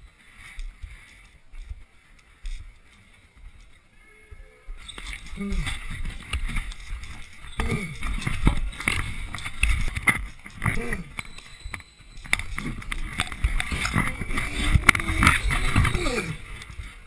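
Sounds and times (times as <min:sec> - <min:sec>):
running footsteps: 0:00.0 - 0:17.0.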